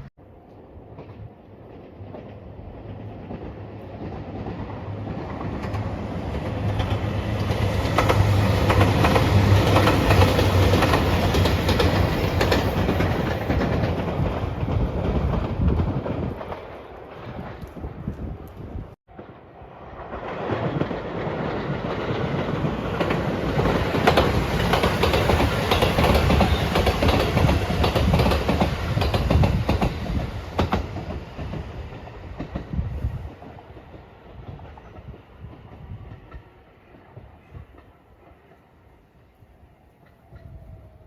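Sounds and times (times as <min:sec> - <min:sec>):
passenger train passing: 0:00.0 - 0:41.0
train wheels clacking on rails: 0:00.9 - 0:18.0, 0:20.1 - 0:38.8.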